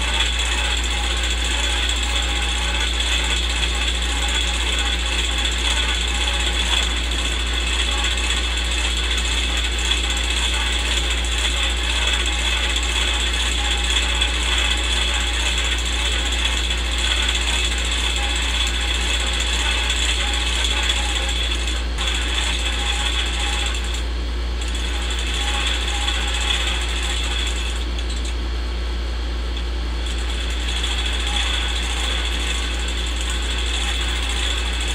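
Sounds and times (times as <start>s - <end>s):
film projector clattering: 0.0s - 28.4s, 29.5s - 34.9s.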